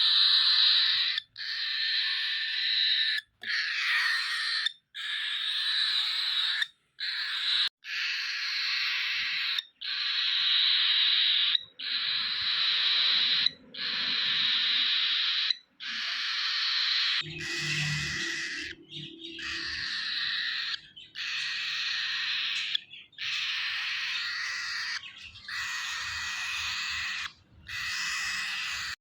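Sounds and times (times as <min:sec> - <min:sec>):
cockatiel chick begging call: 0:00.0 - 0:29.0.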